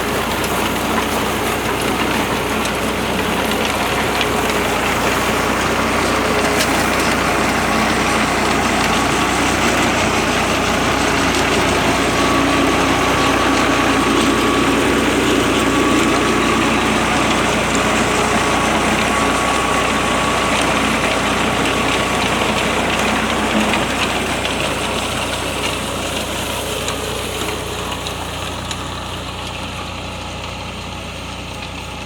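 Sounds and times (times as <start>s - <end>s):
potato harvester running: 0.0s - 32.0s
tractor diesel engine: 0.0s - 32.0s.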